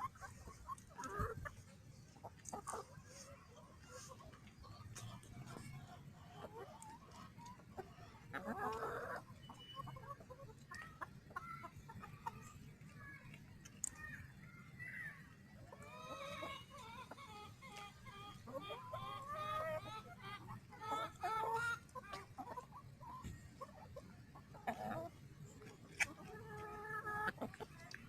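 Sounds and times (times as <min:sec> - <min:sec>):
chickens clucking: 0:00.0 - 0:14.4, 0:15.2 - 0:28.0.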